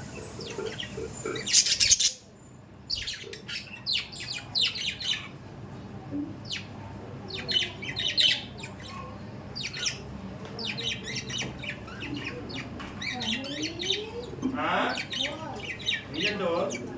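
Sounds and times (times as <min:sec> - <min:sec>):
budgerigars chattering and squawking: 0:00.0 - 0:02.3, 0:02.9 - 0:05.4, 0:06.4 - 0:16.9.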